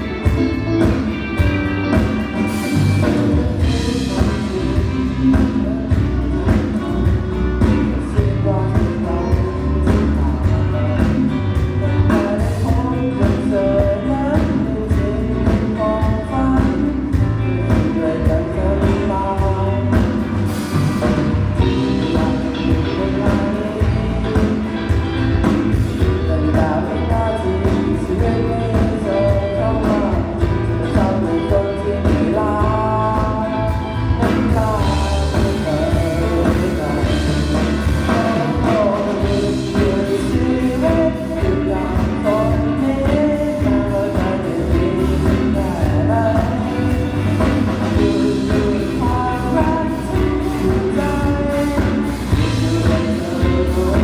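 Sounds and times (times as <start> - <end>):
bass guitar: 0.0 - 54.0
drums: 0.0 - 54.0
person singing: 0.0 - 54.0.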